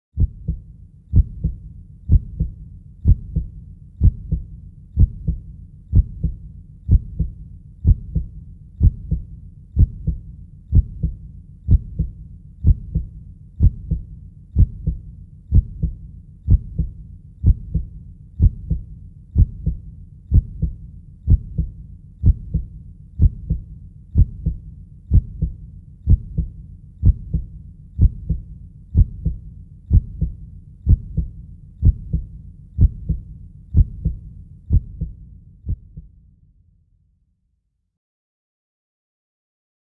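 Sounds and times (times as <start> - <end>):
human heartbeat: 0.2 - 36.1.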